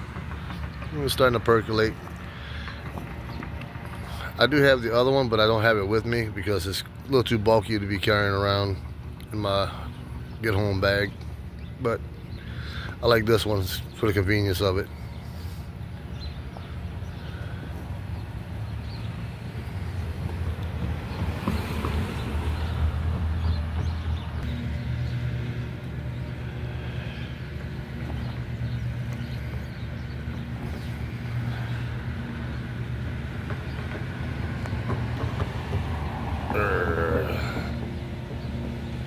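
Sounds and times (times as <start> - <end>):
engine rumbling: 0.0 - 39.0
outdoor background noise: 0.0 - 39.0.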